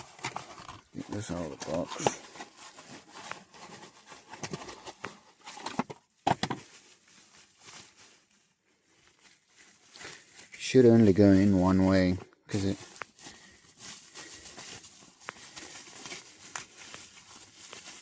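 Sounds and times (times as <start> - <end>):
packaging rustling: 0.0 - 11.2, 12.0 - 18.0.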